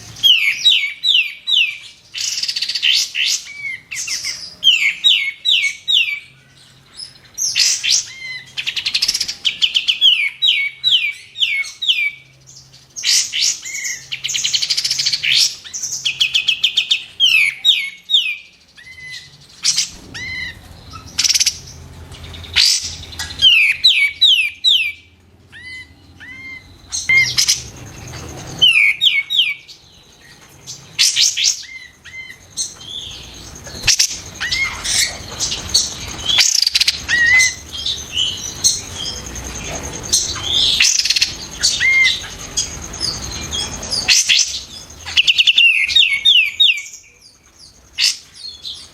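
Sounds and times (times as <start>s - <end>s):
bird sharp calls: 0.0s - 48.9s
bird whistled song: 0.0s - 48.9s.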